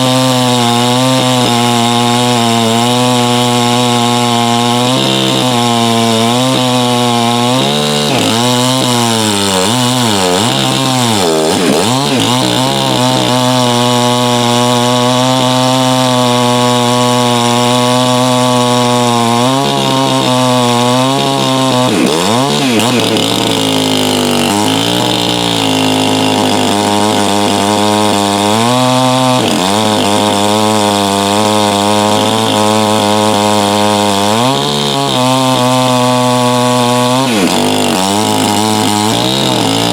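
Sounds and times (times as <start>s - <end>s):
chainsaw running at high speed: 0.0s - 39.9s.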